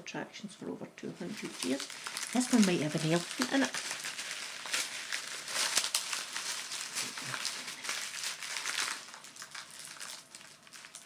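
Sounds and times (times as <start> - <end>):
wrapper crinkling and rustling: 1.2 - 11.0.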